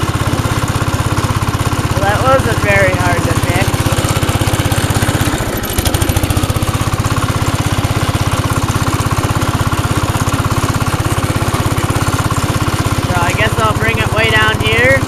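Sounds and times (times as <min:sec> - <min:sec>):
garden tractor engine idling: 0:00.0 - 0:15.0.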